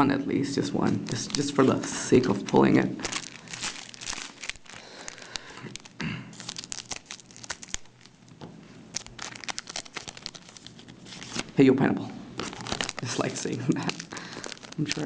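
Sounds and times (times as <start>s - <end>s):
foil wrapper crinkling and tearing: 1.1s - 8.3s, 8.9s - 11.6s, 12.4s - 15.0s.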